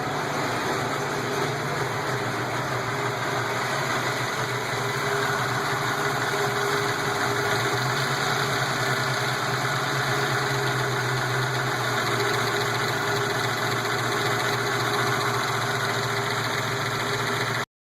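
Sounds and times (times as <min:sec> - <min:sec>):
engine idling: 0:00.0 - 0:17.7.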